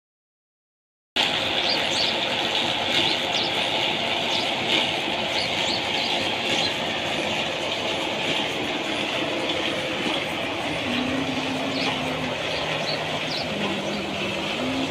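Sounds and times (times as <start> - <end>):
belt-driven pump clattering: 1.2 - 14.9.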